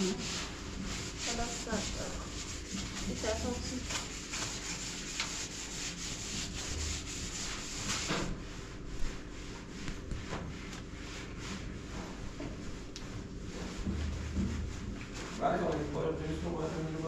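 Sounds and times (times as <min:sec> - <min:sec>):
rubbing and scraping: 0:00.0 - 0:17.0.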